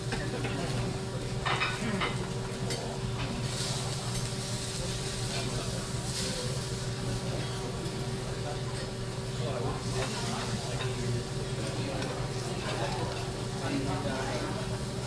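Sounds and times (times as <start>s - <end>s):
vegetables sizzling on griddle: 0.4s - 15.0s.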